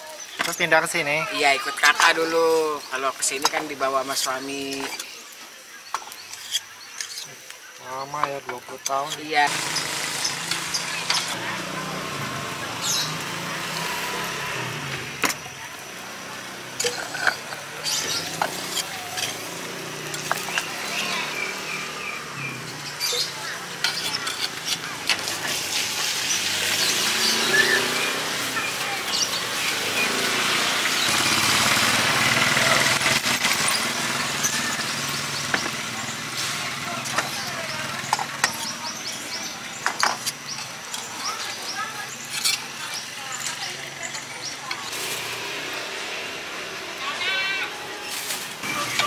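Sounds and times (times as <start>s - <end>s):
engine and traffic hum: 9.4s - 49.0s.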